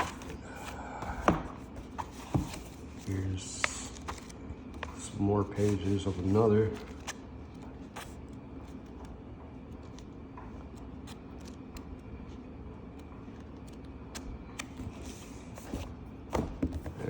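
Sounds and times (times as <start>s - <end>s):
paper rustling: 0.0s - 16.0s
low room hum: 0.0s - 17.0s.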